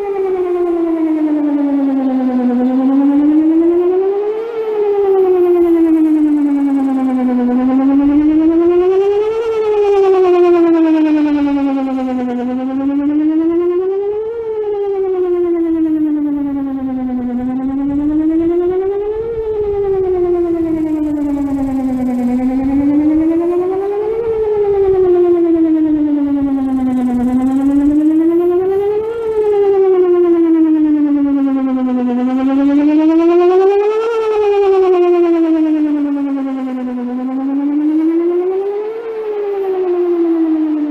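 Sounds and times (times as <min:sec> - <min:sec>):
tornado siren wailing: 0:00.0 - 0:40.9.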